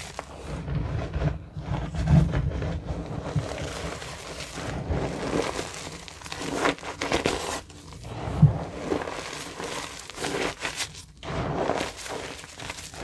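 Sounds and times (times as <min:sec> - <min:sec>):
chalk crunching and crackling: 0:00.0 - 0:13.0.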